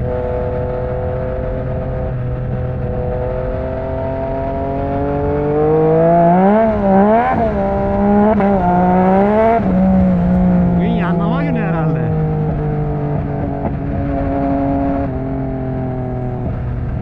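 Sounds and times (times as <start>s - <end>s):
motorcycle engine revving: 0.0s - 11.2s, 11.9s - 17.0s.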